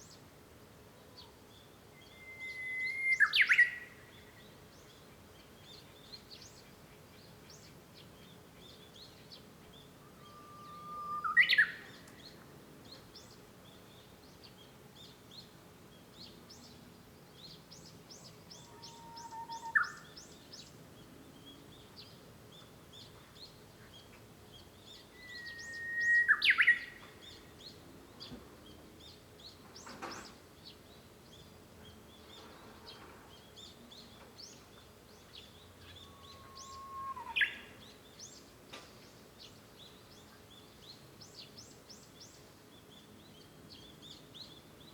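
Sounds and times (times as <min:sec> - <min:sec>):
faint small bird chirps: 0:01.0 - 0:15.4, 0:16.2 - 0:20.7, 0:21.4 - 0:44.9
warbler singing whistled song: 0:01.2 - 0:44.9.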